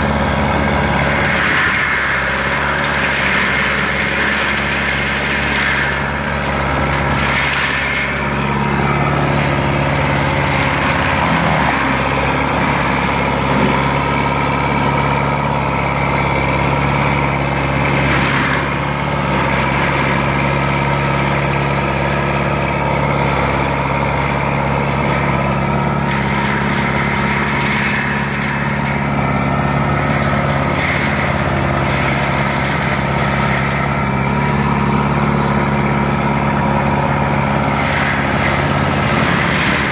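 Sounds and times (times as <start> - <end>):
diesel engine running: 0.0 - 39.9
mulcher grinding brush: 0.0 - 39.9.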